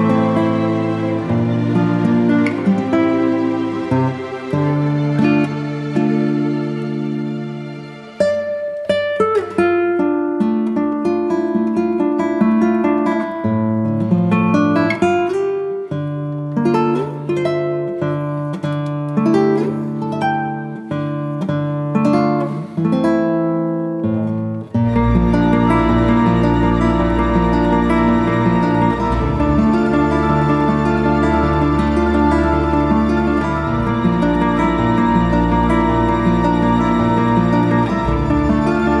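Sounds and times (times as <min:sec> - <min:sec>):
plucked melody music: 0:00.0 - 0:39.0.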